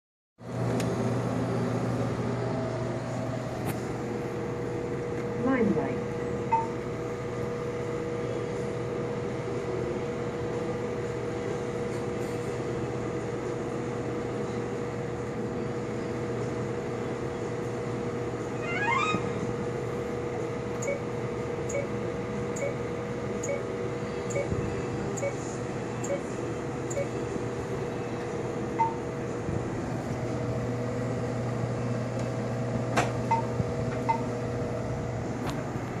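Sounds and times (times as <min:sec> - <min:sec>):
laser console humming: 0:00.4 - 0:36.0.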